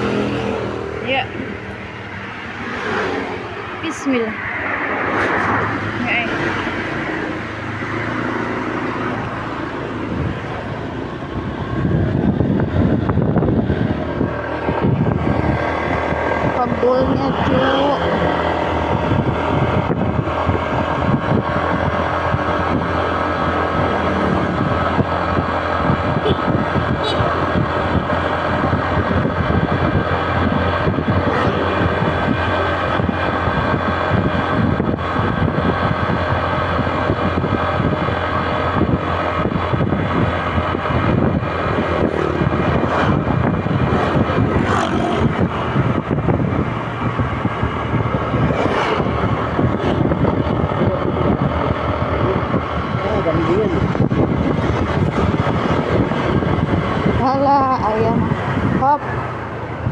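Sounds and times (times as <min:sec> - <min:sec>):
motorcycle engine running: 0:00.0 - 0:04.3, 0:05.7 - 0:59.9
wind on microphone: 0:00.0 - 0:59.9.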